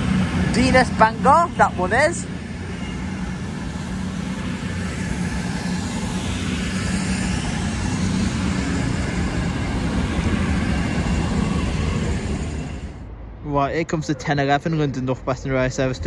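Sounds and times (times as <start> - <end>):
diesel engines droning: 0.0 - 16.0
train wheel and rail noise: 0.0 - 16.0.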